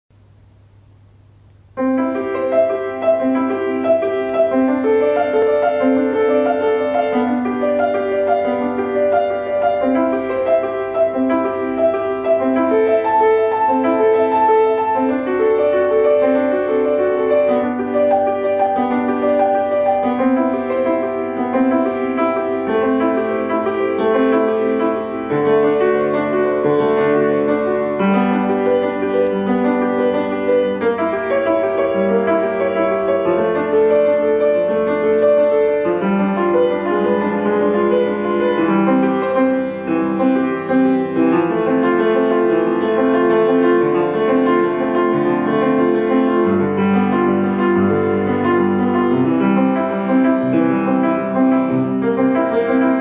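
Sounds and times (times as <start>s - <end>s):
grand piano playing: 1.6s - 53.0s.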